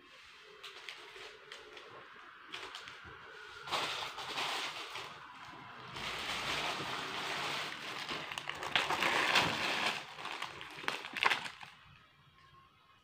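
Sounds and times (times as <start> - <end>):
plastic packaging rustling: 0.2 - 12.0.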